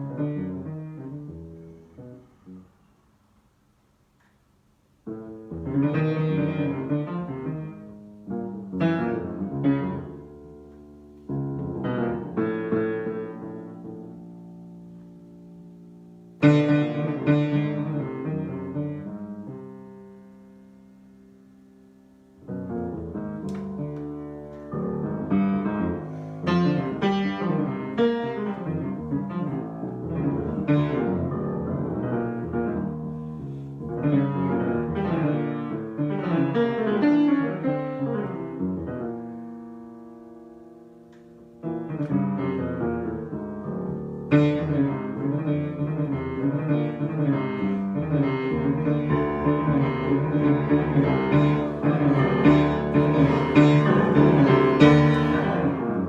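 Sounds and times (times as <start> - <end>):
improvised piano playing: 0.0 - 2.6, 5.1 - 56.0.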